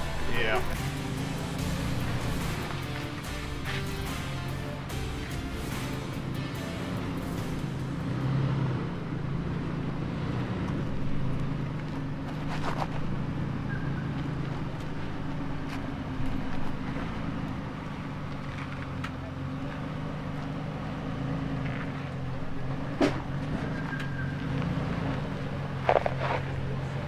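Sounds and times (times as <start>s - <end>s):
suv engine low hum: 0.0s - 27.0s.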